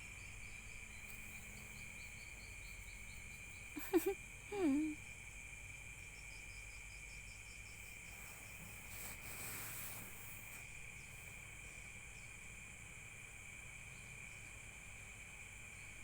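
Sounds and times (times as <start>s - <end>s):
soft rustling hiss: 0.0s - 5.1s, 7.6s - 16.0s
insects droning: 0.0s - 16.0s.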